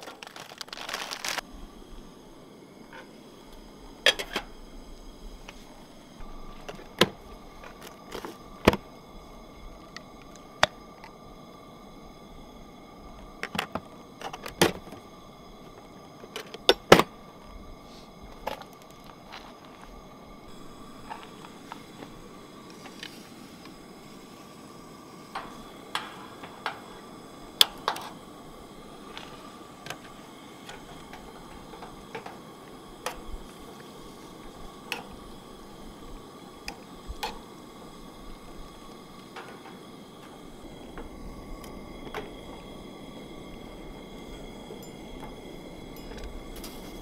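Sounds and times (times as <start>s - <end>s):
gas stove burner hiss: 0.0s - 47.0s.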